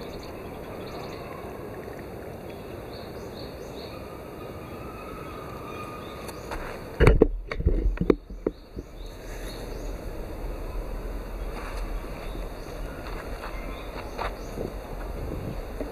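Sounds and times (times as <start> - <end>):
background hiss: 0.0 - 15.9.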